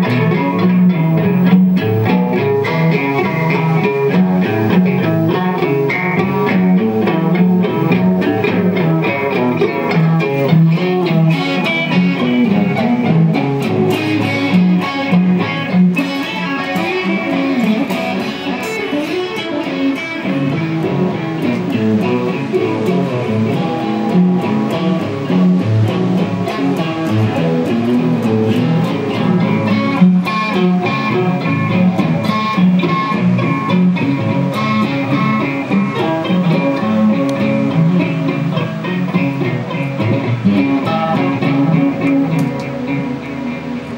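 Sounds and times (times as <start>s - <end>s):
plucked guitar notes: 0.0s - 43.9s.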